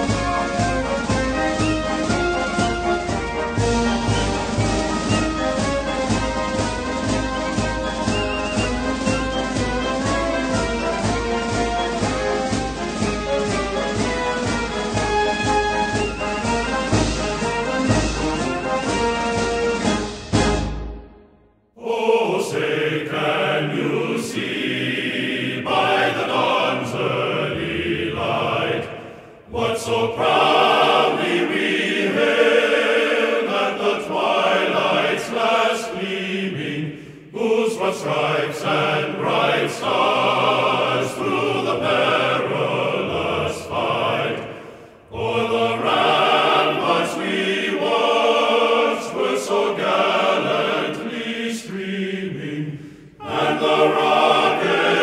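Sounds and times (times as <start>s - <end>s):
music with choral singing: 0.0s - 55.0s.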